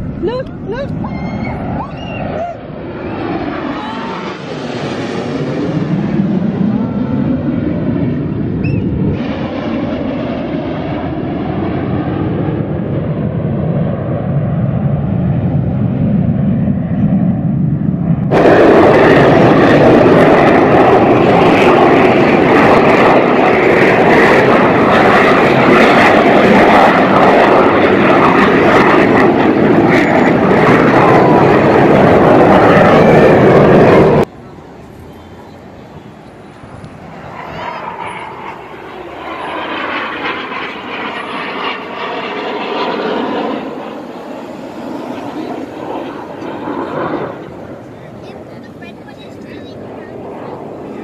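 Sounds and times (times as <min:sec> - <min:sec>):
jet aircraft flying over: 0:00.0 - 0:51.0.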